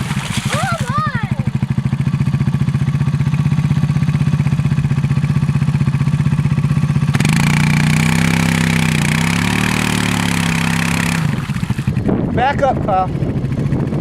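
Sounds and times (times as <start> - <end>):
atv engine chugging and revving: 0.0 - 14.0.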